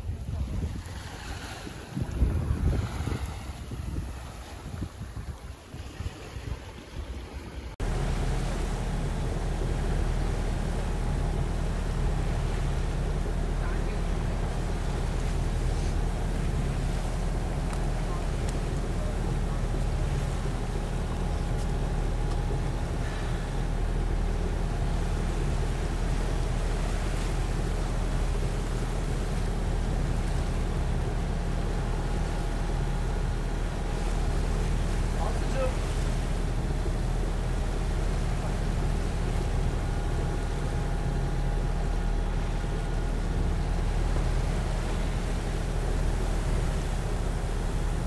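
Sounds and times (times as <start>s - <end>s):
boat engine drone: 0.0s - 48.0s
water rushing: 0.0s - 48.0s
wind: 0.0s - 48.0s
faint steady whine: 7.8s - 48.0s.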